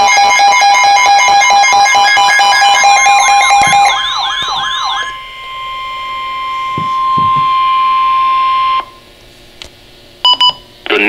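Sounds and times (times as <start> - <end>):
siren-like electronic sweeps: 0.0 - 9.1
warning alarm tone: 0.0 - 9.1
steady electronic tone: 0.0 - 9.2.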